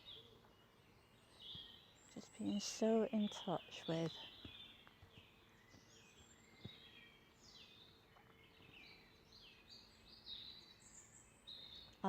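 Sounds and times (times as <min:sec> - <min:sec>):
faint songbirds singing: 0:00.0 - 0:12.0.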